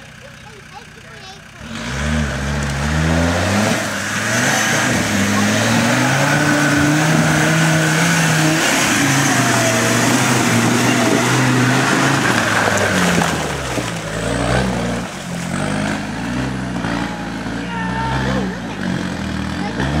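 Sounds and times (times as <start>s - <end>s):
engine revving under load: 0.0s - 20.0s.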